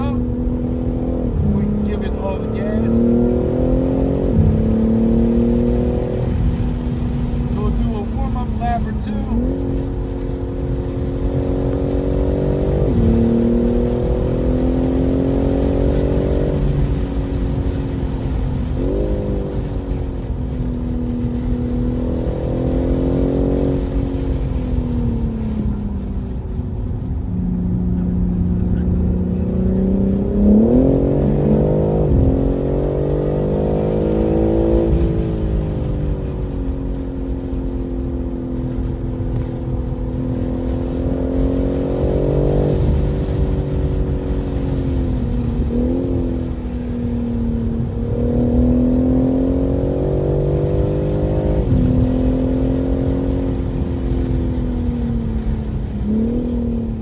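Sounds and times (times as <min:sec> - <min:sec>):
car engine revving at speed: 0:00.0 - 0:57.0.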